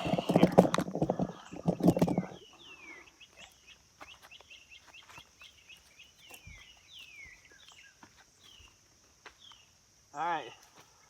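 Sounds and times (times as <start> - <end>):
bird chirping: 0.0 - 8.8, 9.4 - 9.8.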